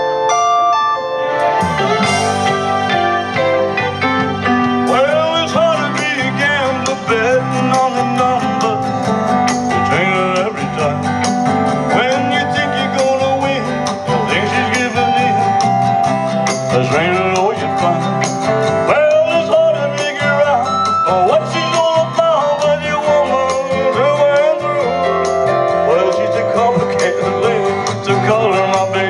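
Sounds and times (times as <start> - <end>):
rock and roll instrumental: 0.0 - 29.0.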